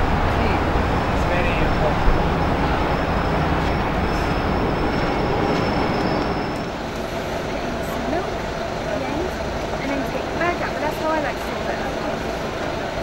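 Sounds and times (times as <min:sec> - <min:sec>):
faint high whine: 0:00.0 - 0:12.3
city noise rumble: 0:00.0 - 0:13.0.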